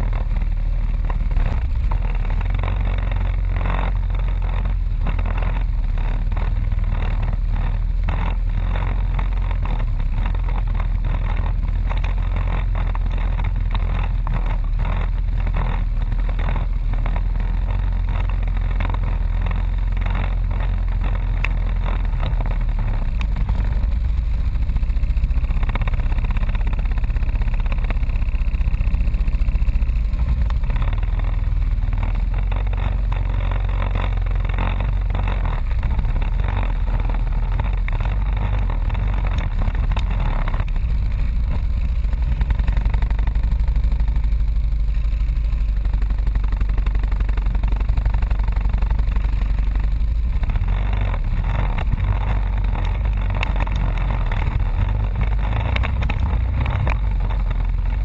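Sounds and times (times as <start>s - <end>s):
atv engine rumbling: 0.0s - 58.0s.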